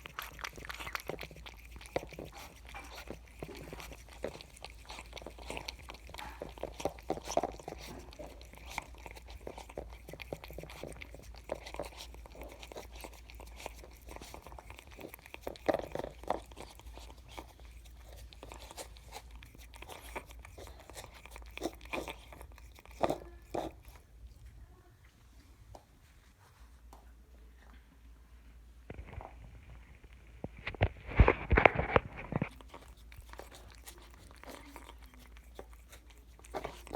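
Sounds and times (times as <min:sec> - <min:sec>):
kittens lapping milk: 0:00.0 - 0:24.9, 0:28.8 - 0:36.9.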